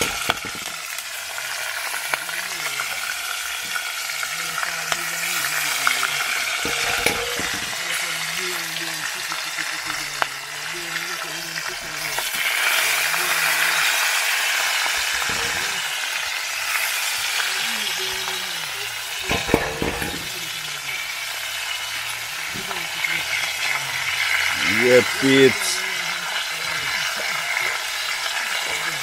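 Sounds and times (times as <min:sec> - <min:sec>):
chicken frying in hot oil: 0:00.0 - 0:29.0.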